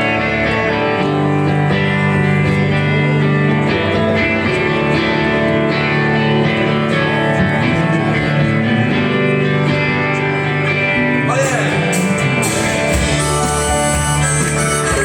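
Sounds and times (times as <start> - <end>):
rock band playing guitars: 0.0 - 15.0.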